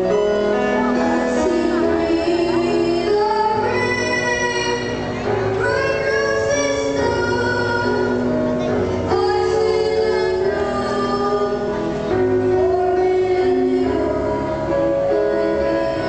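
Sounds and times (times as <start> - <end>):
instrumental accompaniment: 0.0 - 16.0
child singing into a microphone: 0.9 - 16.0.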